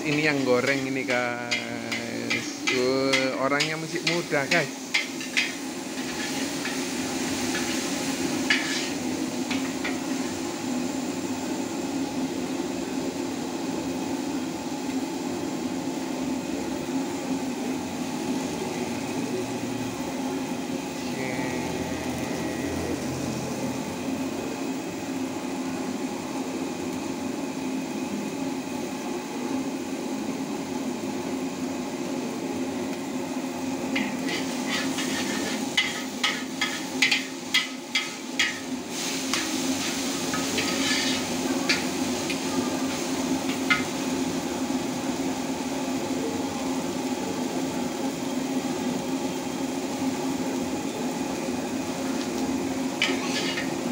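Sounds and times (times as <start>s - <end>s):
noodles frying in a wok: 0.0s - 53.9s.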